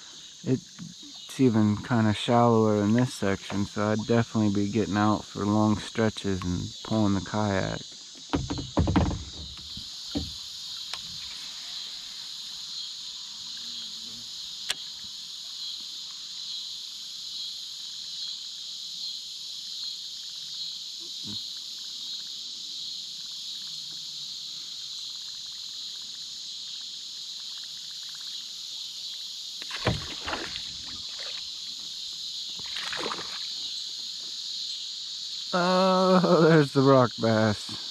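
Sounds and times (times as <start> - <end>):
crickets and insects trilling: 0.0 - 37.9.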